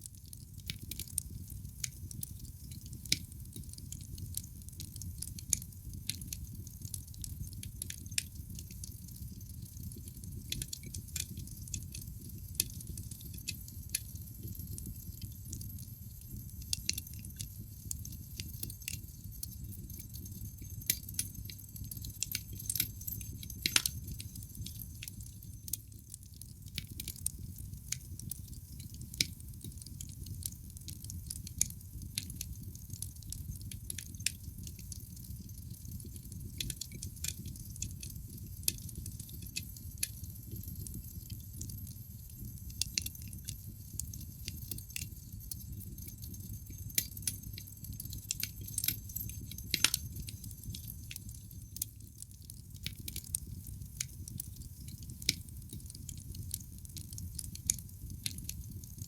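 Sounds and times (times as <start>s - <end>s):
burning logs crackling: 0.0s - 59.0s
low rumble of flames: 0.2s - 59.0s.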